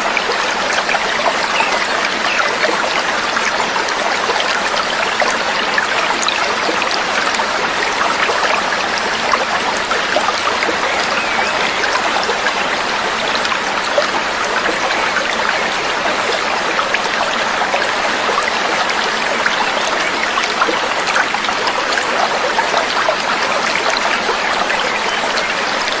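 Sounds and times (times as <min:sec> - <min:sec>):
stream trickling and splashing: 0:00.0 - 0:26.0.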